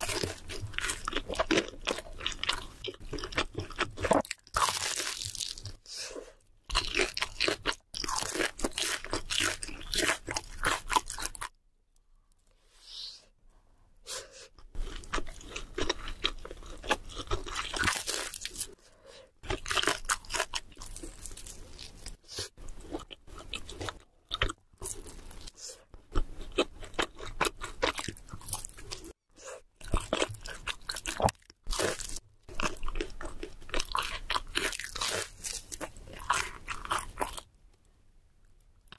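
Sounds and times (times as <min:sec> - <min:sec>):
crunching and chewing crispy food: 0:00.0 - 0:11.6, 0:14.6 - 0:37.6.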